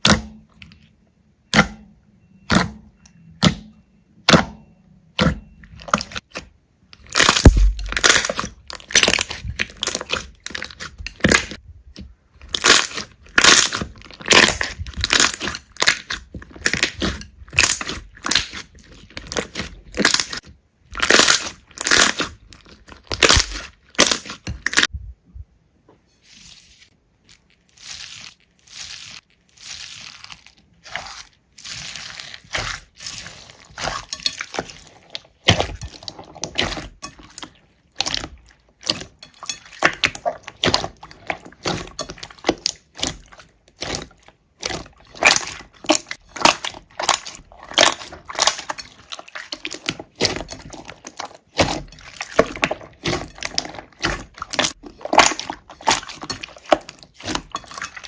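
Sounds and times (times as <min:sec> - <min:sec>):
slime squishing and popping: 0:01.4 - 0:24.9, 0:27.2 - 0:58.0.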